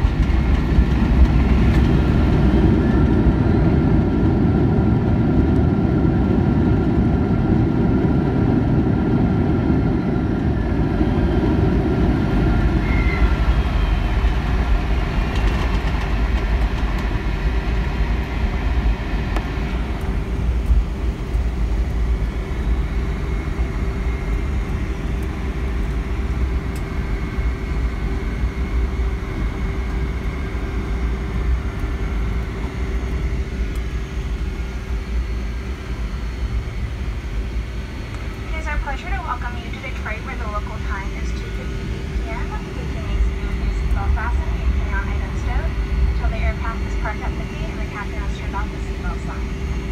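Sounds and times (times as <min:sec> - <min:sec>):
jet engines and wheels rumbling: 0:00.0 - 0:49.9
steady cabin hum: 0:00.0 - 0:49.9.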